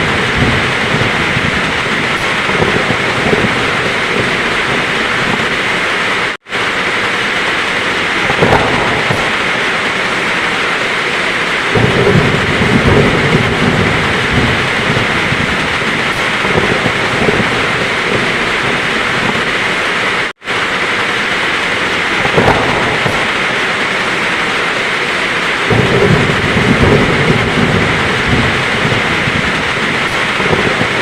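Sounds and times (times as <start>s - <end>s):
heavy rain pouring: 0.0s - 31.0s
low thunder rumbling: 0.0s - 31.0s.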